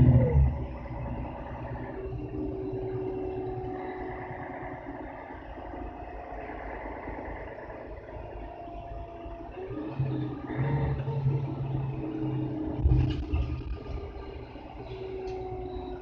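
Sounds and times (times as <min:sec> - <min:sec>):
bus diesel engine rumble: 0:00.0 - 0:16.0.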